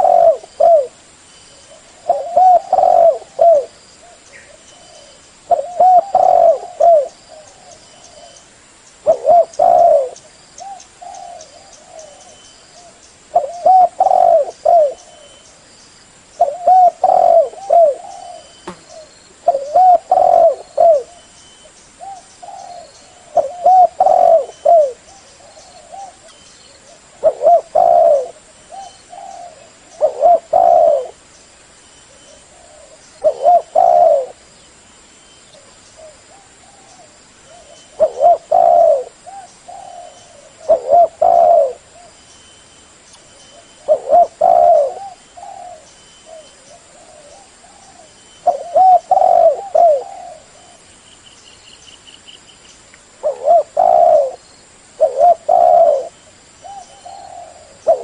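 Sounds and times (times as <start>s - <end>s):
dove cooing: 0.0s - 1.0s, 1.6s - 8.4s, 9.0s - 15.4s, 16.4s - 21.3s, 22.0s - 31.2s, 32.1s - 34.4s, 35.5s - 42.2s, 43.5s - 50.9s, 53.2s - 58.0s.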